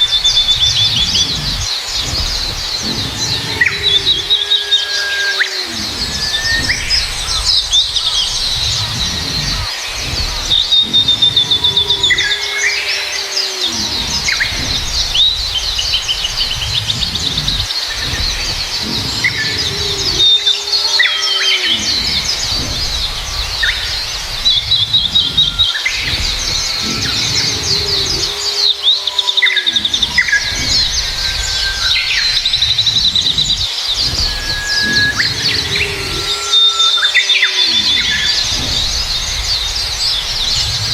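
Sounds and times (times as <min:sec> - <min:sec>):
low whistled bird notes: 0:00.0 - 0:40.9
small birds chirping and trilling: 0:00.0 - 0:40.9.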